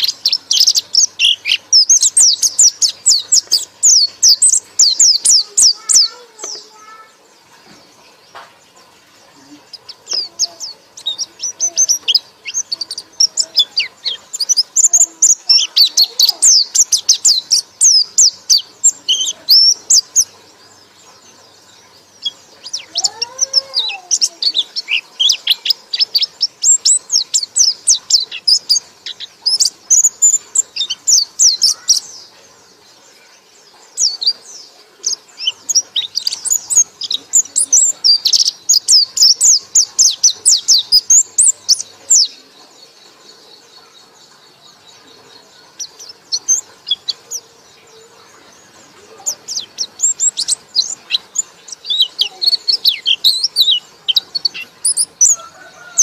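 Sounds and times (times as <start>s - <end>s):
songbird chattering: 0.0s - 56.0s
low arched bird call: 8.9s - 56.0s.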